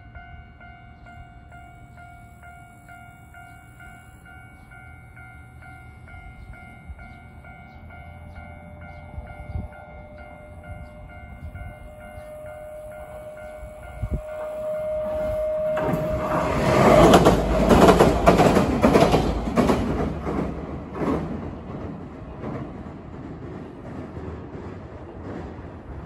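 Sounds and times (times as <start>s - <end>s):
electric train rumbling over bridge: 0.0s - 26.0s.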